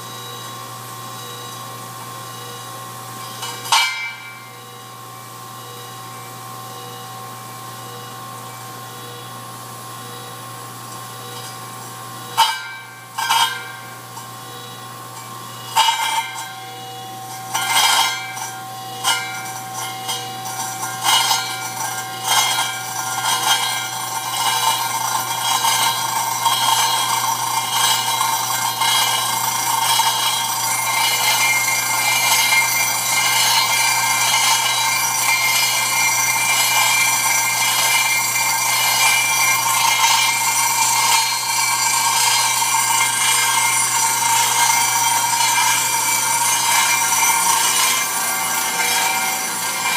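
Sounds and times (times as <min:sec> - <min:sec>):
grinder grinding stone: 0:00.0 - 0:49.9.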